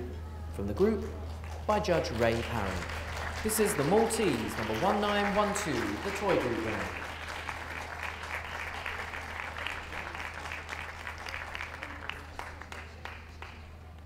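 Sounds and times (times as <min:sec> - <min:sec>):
crowd applauding: 0:01.2 - 0:14.0.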